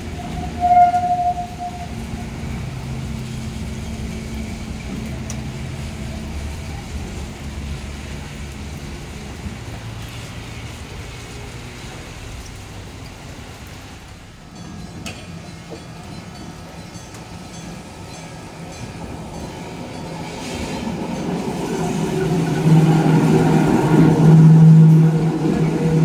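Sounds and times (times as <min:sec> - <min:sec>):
tram motor hum and rumble: 0:00.0 - 0:26.0.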